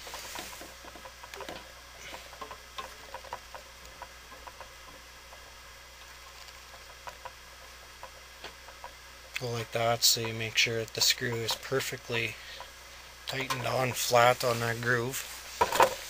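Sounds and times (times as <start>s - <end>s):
fan blade clicking and ticking: 0.1s - 16.0s.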